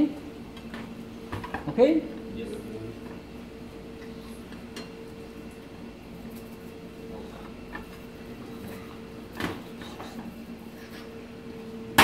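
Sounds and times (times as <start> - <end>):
low hum of kitchen machinery: 0.0 - 12.0.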